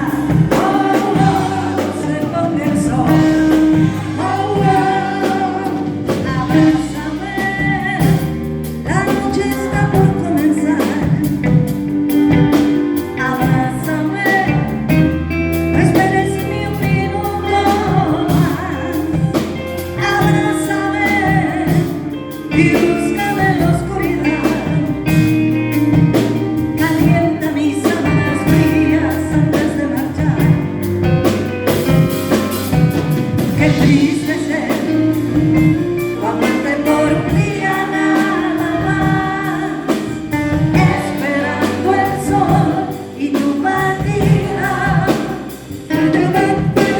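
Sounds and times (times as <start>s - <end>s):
person singing: 0.0s - 30.7s, 33.4s - 46.9s
live band playing pop ballad: 0.0s - 46.9s
steady drum beat: 0.0s - 46.9s.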